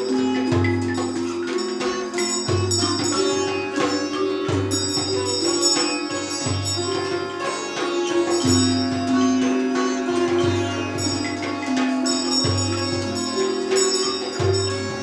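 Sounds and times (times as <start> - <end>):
hand drum strikes: 0.0 - 15.0
sitar playing: 0.0 - 15.0.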